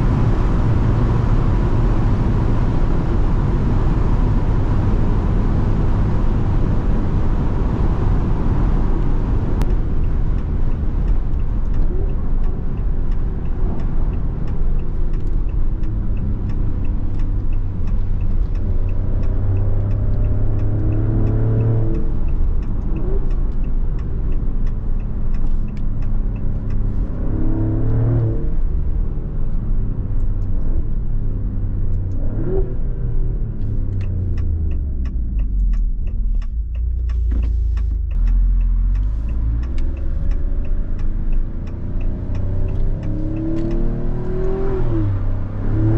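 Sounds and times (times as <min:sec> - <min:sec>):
car engine pulling hard: 0:00.0 - 0:45.9
road rumble: 0:00.0 - 0:45.9.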